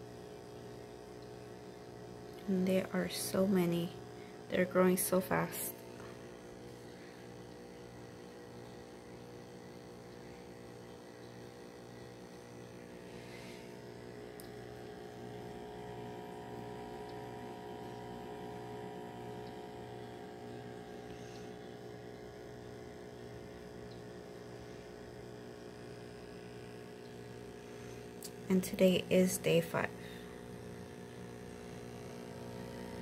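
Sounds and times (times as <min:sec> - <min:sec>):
air pump humming: 0:00.0 - 0:33.0.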